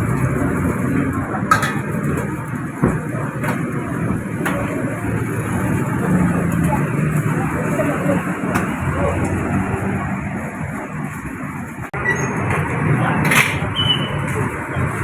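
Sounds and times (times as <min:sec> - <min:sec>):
distant voices: 0:00.0 - 0:15.0
steady traffic noise: 0:00.0 - 0:15.0.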